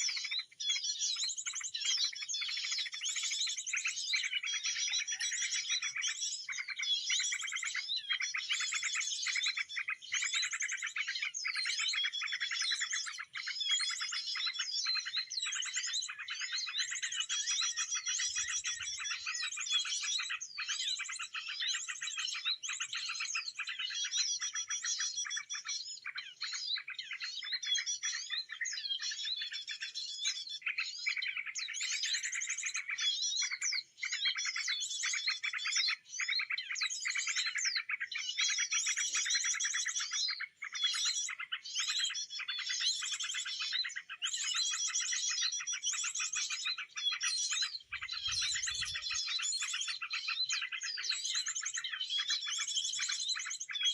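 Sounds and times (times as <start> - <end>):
small songbirds chirping and trilling: 0.0 - 53.9.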